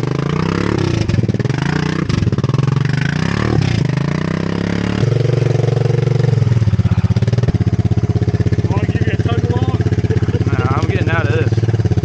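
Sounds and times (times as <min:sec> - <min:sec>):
quad bike engine revving: 0:00.0 - 0:12.0.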